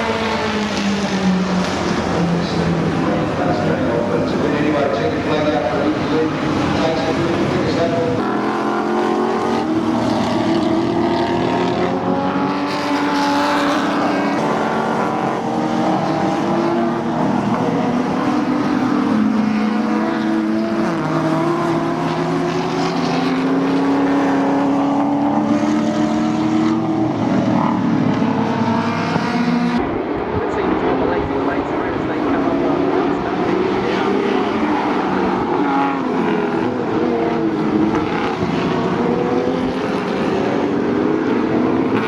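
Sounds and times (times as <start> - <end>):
race car engines passing: 0.0 - 42.0.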